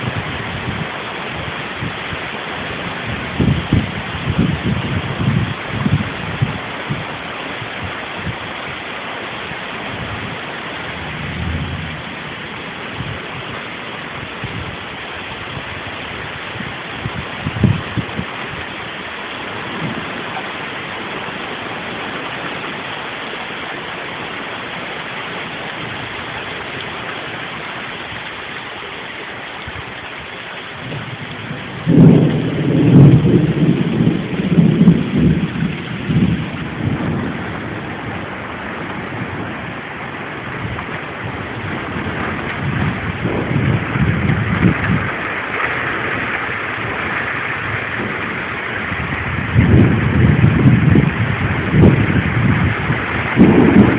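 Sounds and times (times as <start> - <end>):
heavy rain pouring: 0.0 - 53.9
low rumbling gusts: 0.0 - 53.9.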